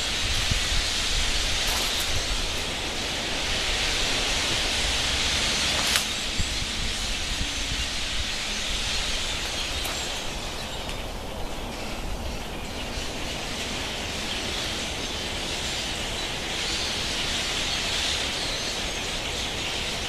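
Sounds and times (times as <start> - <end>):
flock of blackbirds calling: 0.0 - 20.0.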